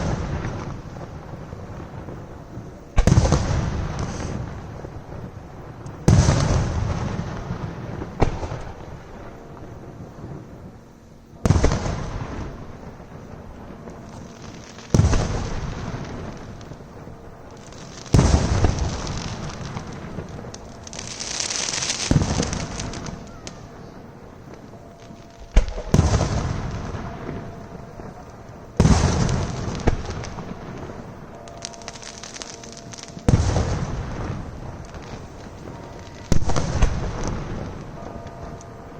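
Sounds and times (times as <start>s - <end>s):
firework shells booming: 0.0s - 9.7s, 11.4s - 38.9s
firework crackling: 0.0s - 38.9s
rolling echo: 0.0s - 38.9s.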